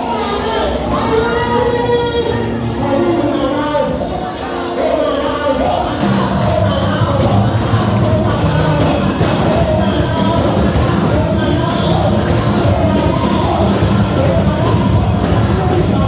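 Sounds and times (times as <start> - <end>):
band music with singing: 0.0 - 16.0
steady drum beat: 0.0 - 16.0.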